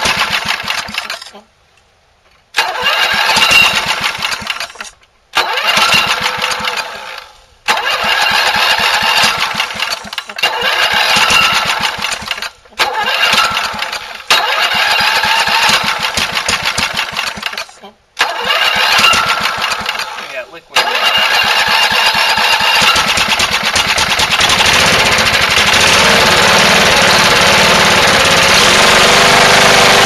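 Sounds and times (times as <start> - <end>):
lawn mower engine running: 0.0 - 1.4, 2.6 - 30.0.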